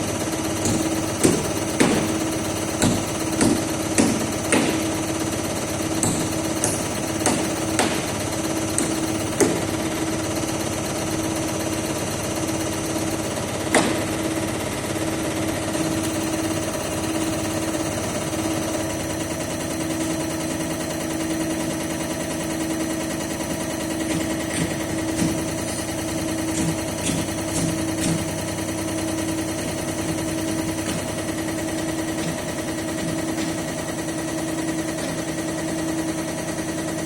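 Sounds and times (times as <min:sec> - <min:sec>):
constant machine hum: 0:00.0 - 0:37.0
rapid mechanical clatter: 0:00.0 - 0:37.0.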